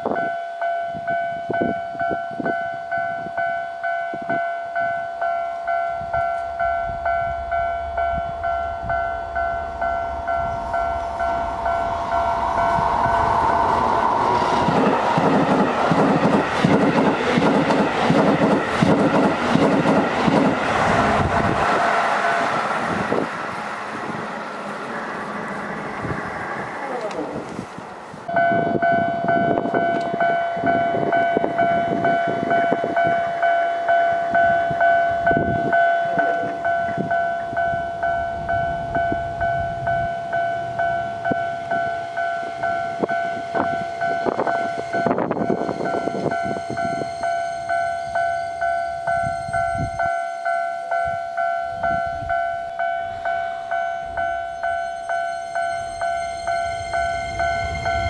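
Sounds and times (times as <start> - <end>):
level crossing warning bell: 0.0 - 23.8, 28.2 - 58.0.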